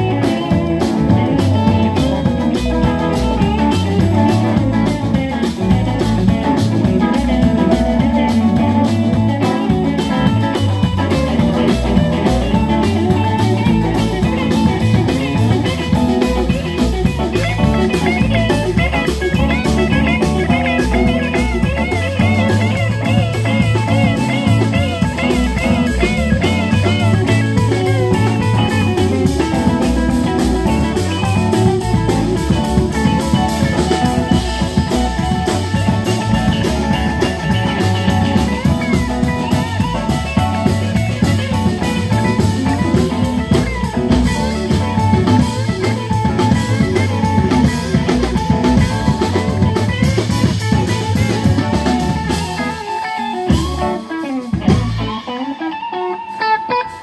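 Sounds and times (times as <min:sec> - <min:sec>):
upright bass: 0:00.0 - 0:55.4
blues-rock band playing: 0:00.0 - 0:57.0.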